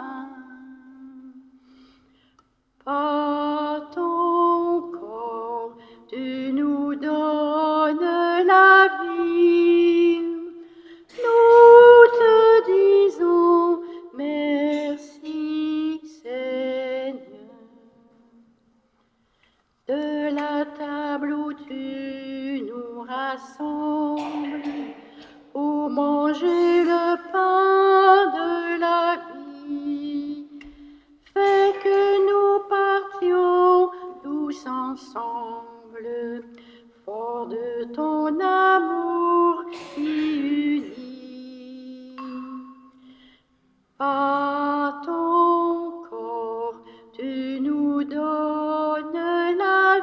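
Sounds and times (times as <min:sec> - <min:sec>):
person singing a hymn unaccompanied: 0:00.0 - 0:01.9, 0:02.8 - 0:18.5, 0:19.8 - 0:43.4, 0:44.0 - 0:50.0.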